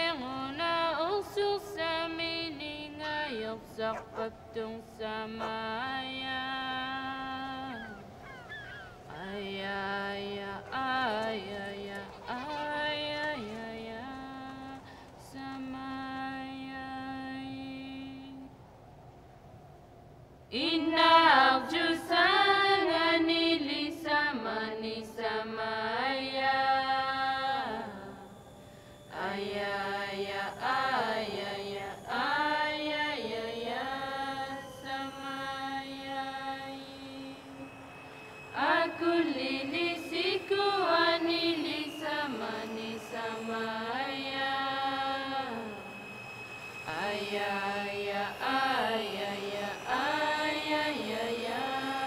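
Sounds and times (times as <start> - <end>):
person singing unaccompanied: 0.0 - 18.6, 20.5 - 52.0.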